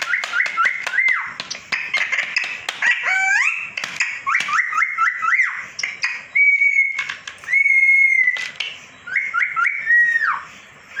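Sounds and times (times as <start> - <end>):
parakeet whistling: 0.0 - 11.0.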